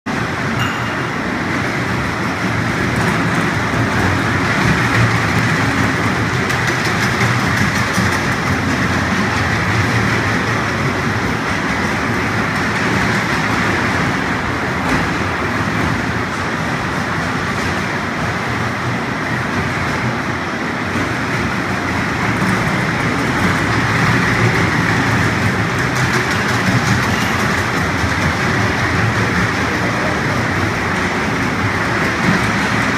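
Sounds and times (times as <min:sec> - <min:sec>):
ride train running on track: 0:00.0 - 0:32.9.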